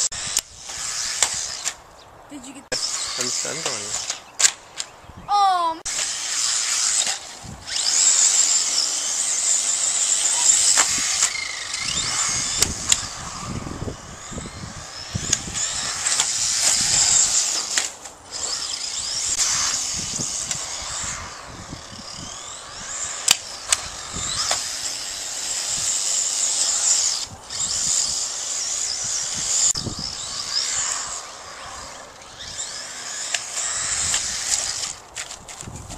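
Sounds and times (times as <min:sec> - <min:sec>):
electric motor whine: 0:00.0 - 0:01.8, 0:02.7 - 0:04.9, 0:05.9 - 0:35.9.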